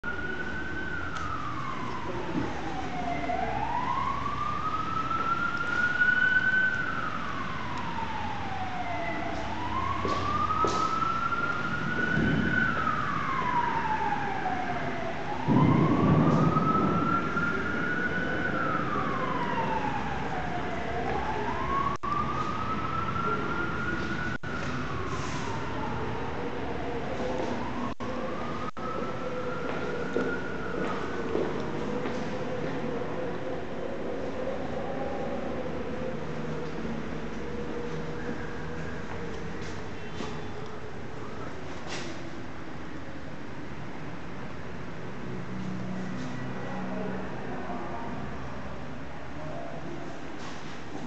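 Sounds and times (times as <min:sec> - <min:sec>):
emergency siren wailing: 0:00.0 - 0:51.0.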